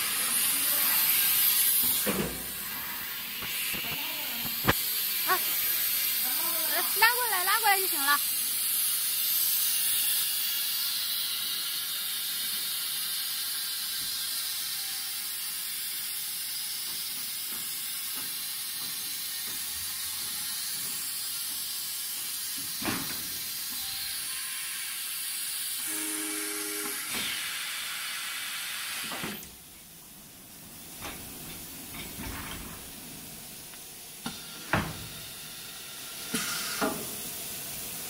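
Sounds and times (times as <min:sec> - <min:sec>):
machine air hiss: 0:00.0 - 0:29.6, 0:33.0 - 0:38.0.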